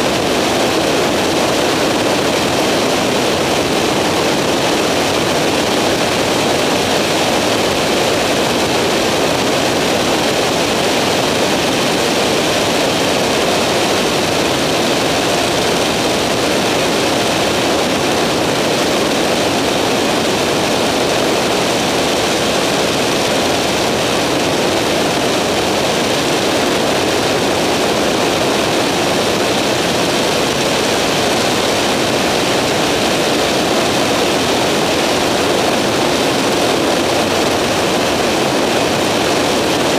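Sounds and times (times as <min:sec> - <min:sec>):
aircraft engine and propeller: 0:00.0 - 0:39.9
wind noise on microphone: 0:00.0 - 0:39.9.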